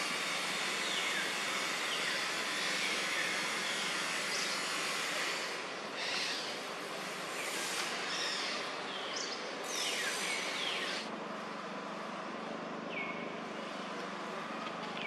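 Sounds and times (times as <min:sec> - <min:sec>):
steady forest hiss: 0:00.0 - 0:14.6.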